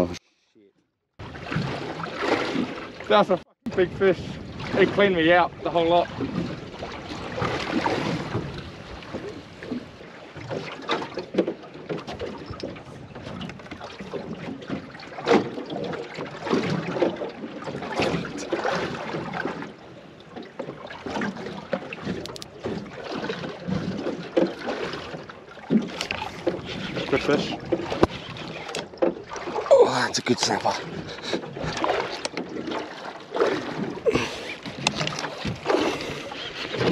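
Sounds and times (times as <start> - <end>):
water slapping against hull: 1.2 - 36.9.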